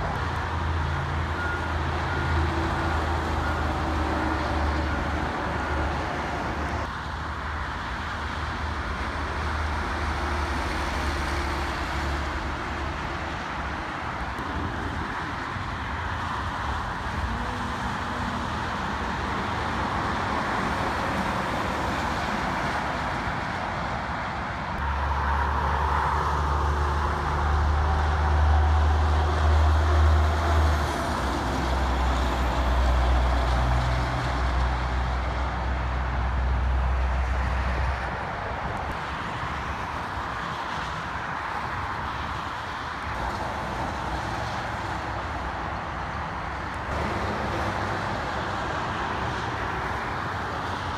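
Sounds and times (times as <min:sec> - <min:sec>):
truck engines droning: 0:00.0 - 0:50.9
tyres rushing on road: 0:00.0 - 0:50.9.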